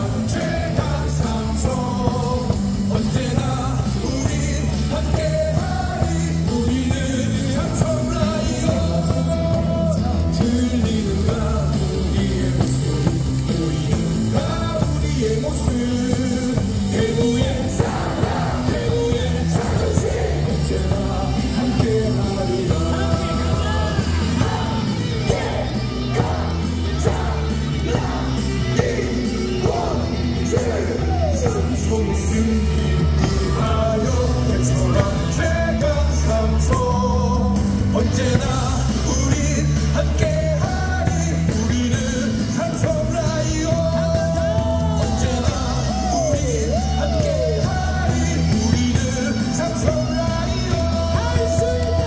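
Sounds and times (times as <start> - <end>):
cheer song over loudspeakers: 0.0 - 52.0
crowd singing and shouting: 0.0 - 52.0.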